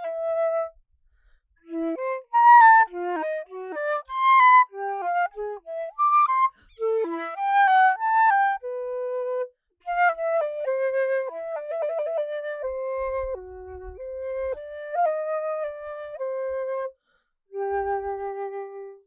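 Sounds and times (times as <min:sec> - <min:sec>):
solo flute melody: 0:00.0 - 0:00.8, 0:01.6 - 0:19.0.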